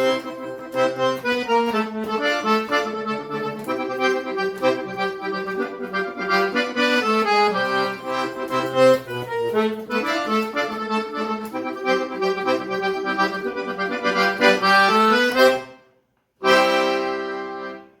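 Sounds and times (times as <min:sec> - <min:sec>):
accordion melody: 0:00.0 - 0:18.0.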